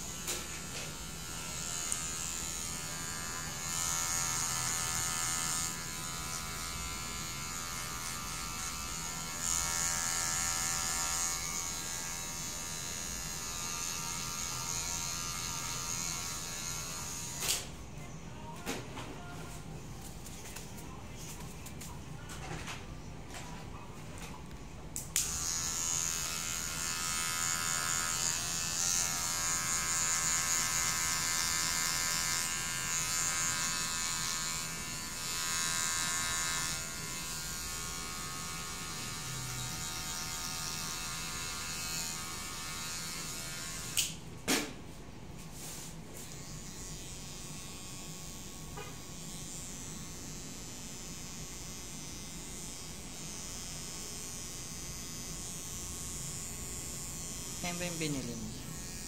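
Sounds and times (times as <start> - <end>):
electric hair clipper buzzing: 0.0 - 17.7, 25.0 - 44.3, 46.2 - 59.0.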